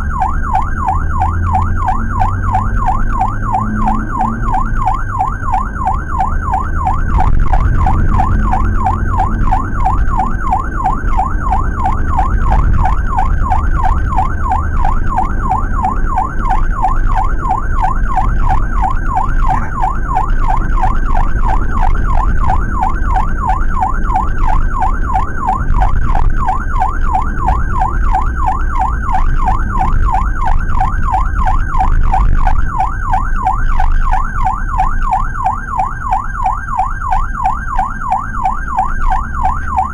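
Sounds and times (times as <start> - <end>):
electronic siren yelping: 0.0 - 39.9
low rumble of engine and tyres: 0.0 - 39.9.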